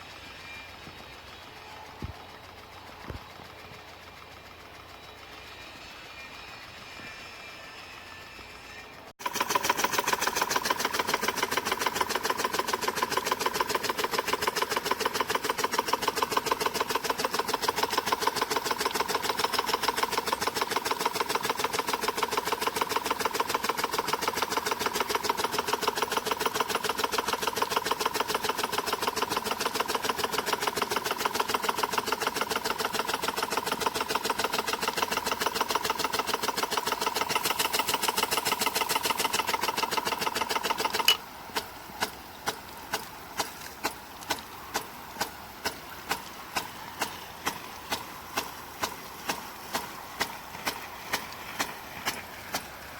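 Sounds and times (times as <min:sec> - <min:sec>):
irrigator mechanical clicking: 0:00.4 - 0:07.0, 0:09.2 - 0:52.9.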